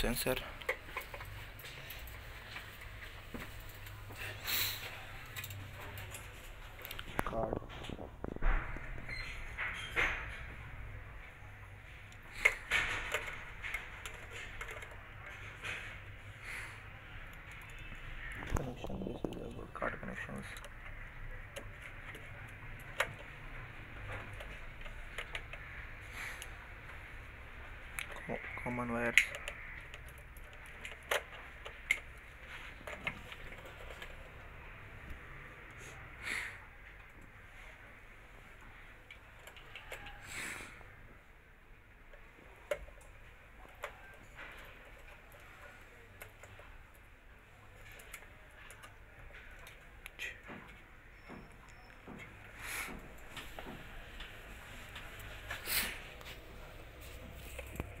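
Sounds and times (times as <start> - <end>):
wires and circuit board clicking: 0.0 - 58.0.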